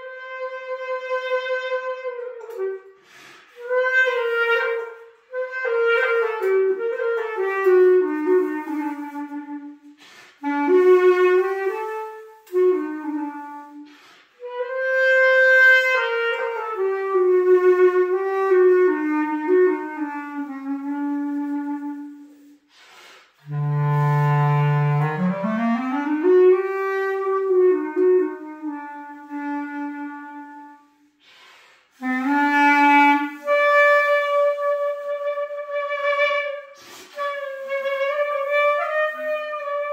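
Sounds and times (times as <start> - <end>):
solo clarinet melody: 0.0 - 39.9.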